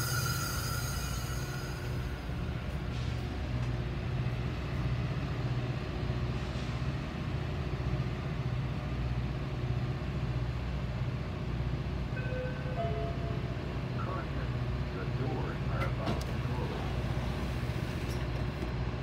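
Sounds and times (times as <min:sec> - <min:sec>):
rail car rumble and hum: 0:00.0 - 0:19.0.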